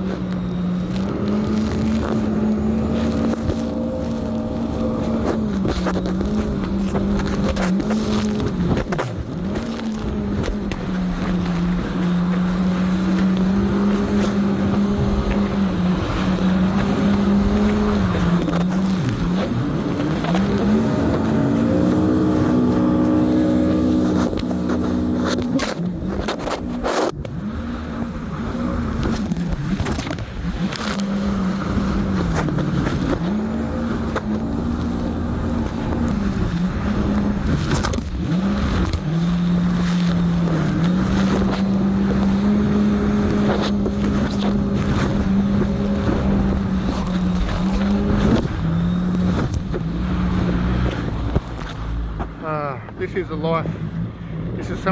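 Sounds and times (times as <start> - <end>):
jet ski engine running: 0.0 - 54.9
wind and water rushing: 0.0 - 54.9.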